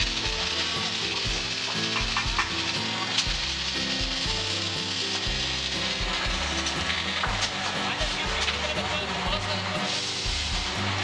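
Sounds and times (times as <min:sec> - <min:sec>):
background music with bass line: 0:00.0 - 0:11.0
constant hiss: 0:00.0 - 0:11.0.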